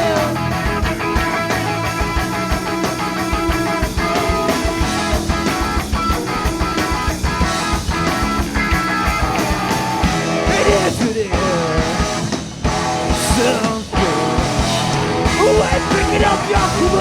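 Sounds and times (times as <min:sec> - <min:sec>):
electric guitar: 0:00.0 - 0:17.0
steady drum beat: 0:00.0 - 0:17.0.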